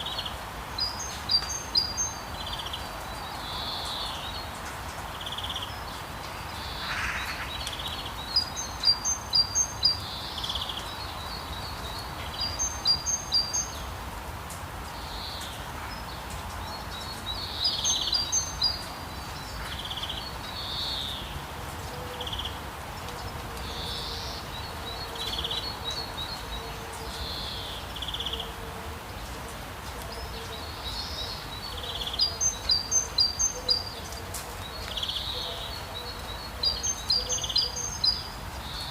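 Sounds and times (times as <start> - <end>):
songbirds chirping: 0.0 - 38.9
steady rain: 0.0 - 38.9.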